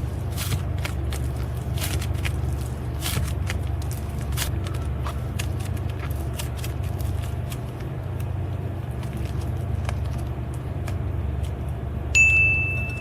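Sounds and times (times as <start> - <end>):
slime squished by hand: 0.0 - 11.8
steady low hum: 0.0 - 13.0.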